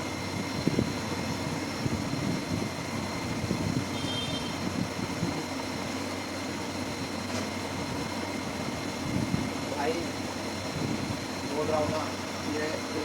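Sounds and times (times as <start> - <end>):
motor spinning propeller fan: 0.0 - 13.0.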